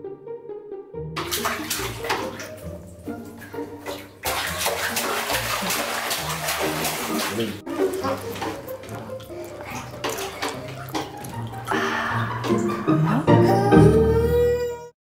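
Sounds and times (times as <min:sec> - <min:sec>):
soft background music: 0:00.0 - 0:14.9
bath water splashing: 0:01.2 - 0:14.0.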